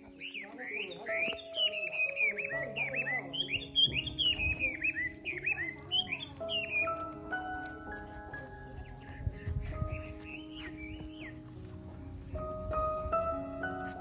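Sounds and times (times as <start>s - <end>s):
young animals peeping: 0.0s - 13.0s
soft background music: 0.0s - 14.0s.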